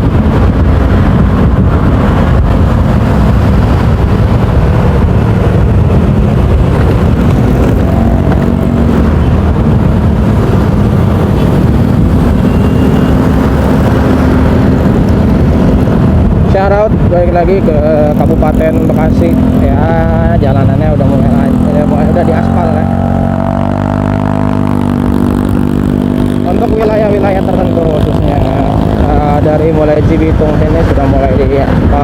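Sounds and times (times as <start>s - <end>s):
motorcycle engine hum: 0.0s - 32.0s
wind rumble on microphone: 0.0s - 32.0s.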